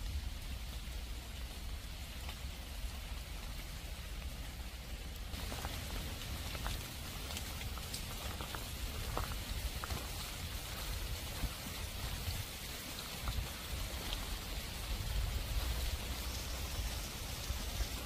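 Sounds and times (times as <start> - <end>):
heavy rain pouring: 0.0 - 18.0
raindrops ticking: 0.0 - 18.0.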